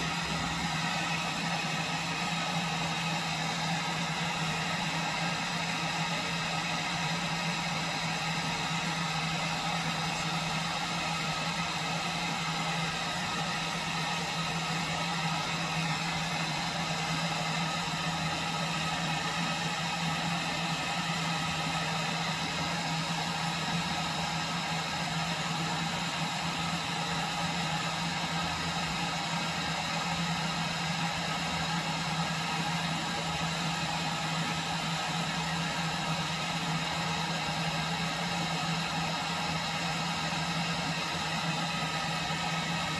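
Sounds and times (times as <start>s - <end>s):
gas burner roaring: 0.0s - 42.9s.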